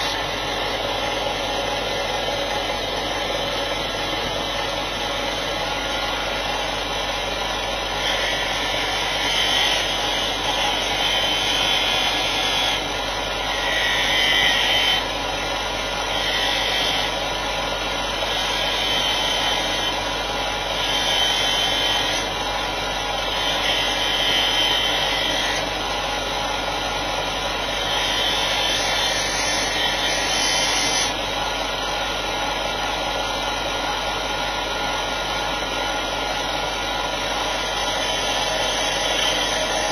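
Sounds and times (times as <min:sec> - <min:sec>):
workpiece rasping on grinder: 0:00.0 - 0:03.5, 0:05.2 - 0:31.2, 0:36.9 - 0:39.9
bench grinder motor running: 0:00.0 - 0:39.9.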